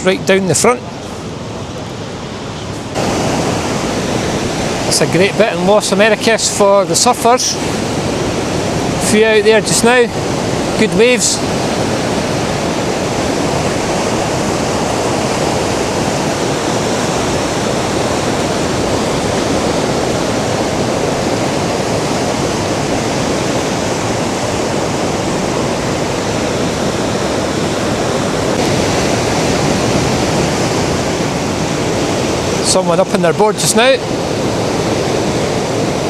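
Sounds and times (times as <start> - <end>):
surf waves breaking on beach: 0.0 - 36.0.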